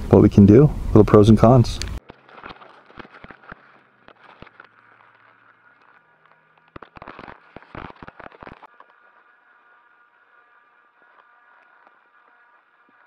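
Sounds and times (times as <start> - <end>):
faint crackling and clicking: 1.7 - 13.0.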